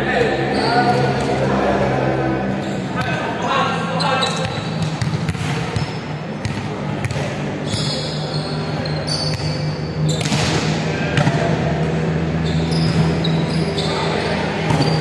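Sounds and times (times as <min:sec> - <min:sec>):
players' voices: 0:00.0 - 0:15.0.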